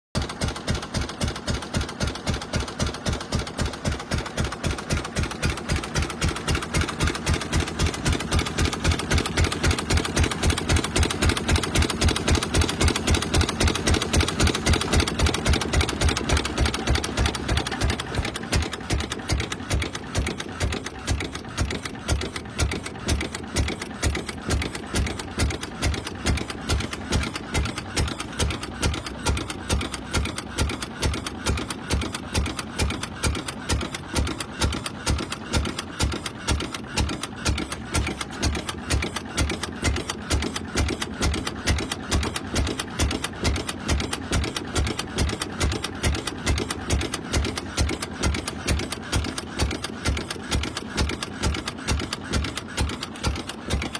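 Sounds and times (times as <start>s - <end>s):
single-cylinder engine chugging: 0.2s - 53.9s.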